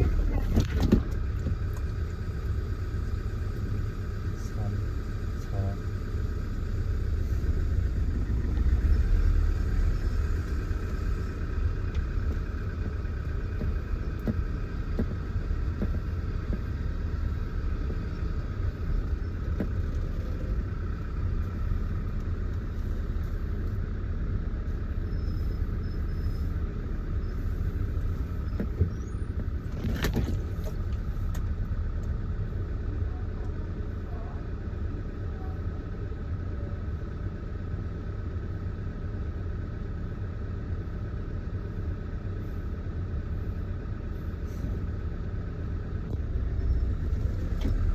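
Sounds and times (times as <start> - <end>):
vehicle engine rumbling: 0.0 - 47.9.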